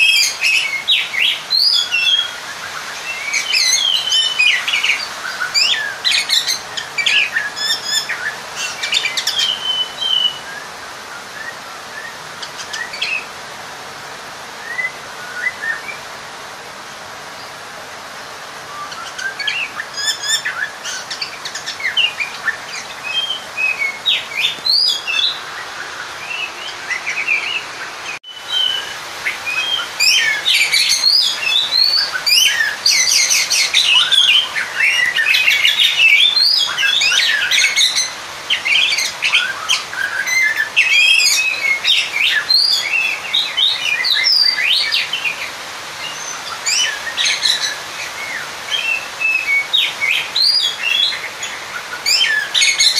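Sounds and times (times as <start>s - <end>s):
bird singing chirps and trills: 0.0s - 13.5s, 14.5s - 16.2s, 18.3s - 52.9s.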